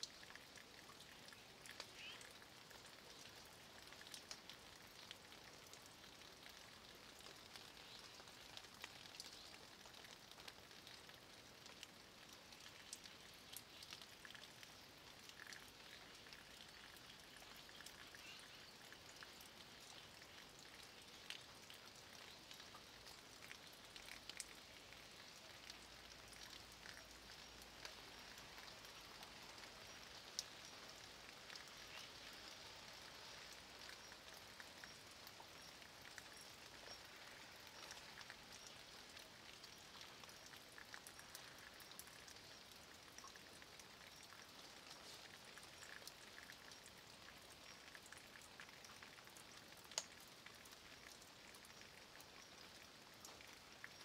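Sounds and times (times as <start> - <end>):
light rain on stone wall: 0.0 - 54.0.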